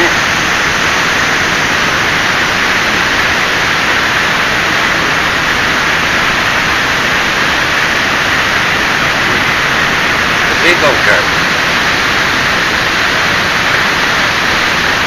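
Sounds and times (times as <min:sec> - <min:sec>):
steady loud hiss: 0:00.0 - 0:15.0.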